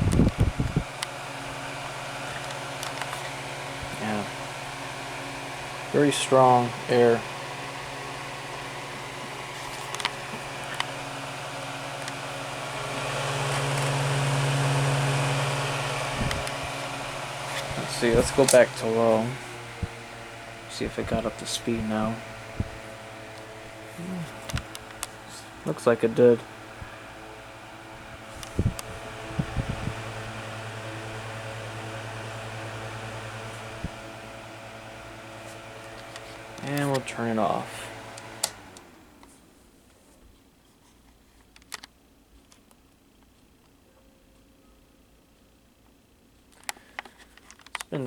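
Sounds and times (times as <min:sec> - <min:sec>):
table fan motor hum and air rush: 0:00.0 - 0:39.6.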